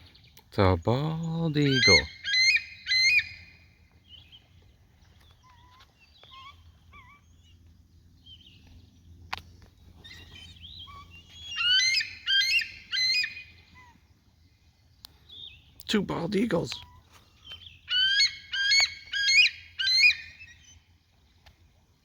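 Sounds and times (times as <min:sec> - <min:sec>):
faint lower bird chirps: 0:00.0 - 0:09.3, 0:09.9 - 0:15.9, 0:16.8 - 0:21.5
eagle piping chirps: 0:01.2 - 0:09.0, 0:10.0 - 0:14.0, 0:15.1 - 0:20.9.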